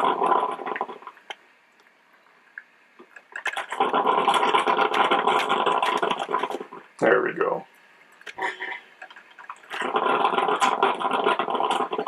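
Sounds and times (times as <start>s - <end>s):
drip coffee maker gurgling: 0.0s - 1.5s, 2.2s - 12.0s.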